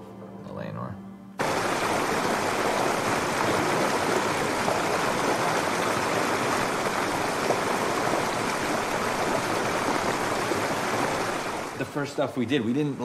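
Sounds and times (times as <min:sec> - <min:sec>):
rushing water: 0:01.4 - 0:13.0.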